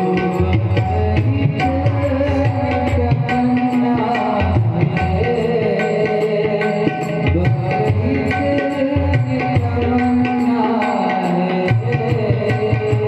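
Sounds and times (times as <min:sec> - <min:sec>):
tabla playing a rhythm: 0:00.0 - 0:13.0.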